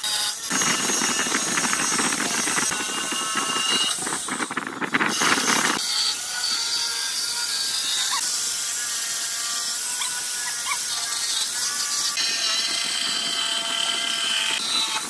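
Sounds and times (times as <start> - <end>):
electric jigsaw sawing wood: 0.0 - 15.0.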